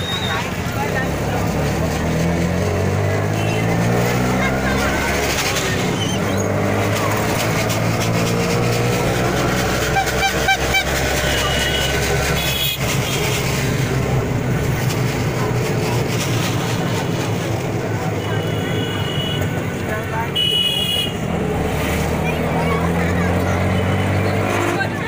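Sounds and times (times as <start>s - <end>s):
small vehicle engine running: 0.0s - 20.3s, 21.2s - 25.0s
street crowd noise: 0.0s - 25.0s.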